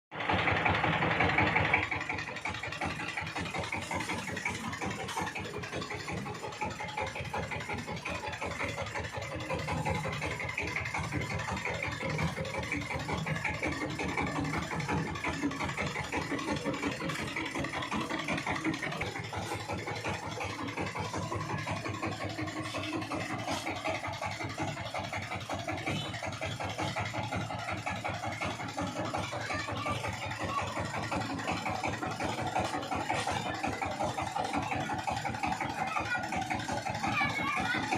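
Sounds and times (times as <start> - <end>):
tiller diesel engine chugging: 0.1 - 37.9.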